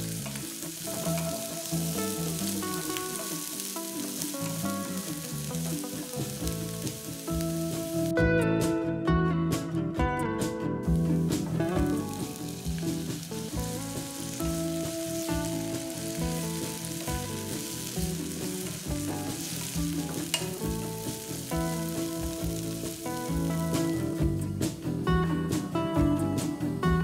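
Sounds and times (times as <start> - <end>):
vegetables sizzling in hot oil: 0.0 - 8.1, 10.8 - 24.8
background music: 0.0 - 27.0.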